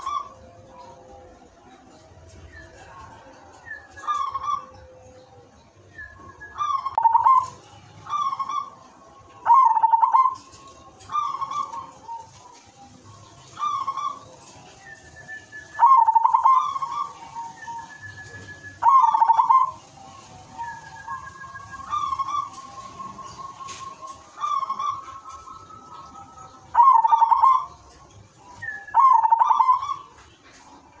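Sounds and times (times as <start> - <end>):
dove cooing: 0.0 - 5.3, 6.0 - 31.0.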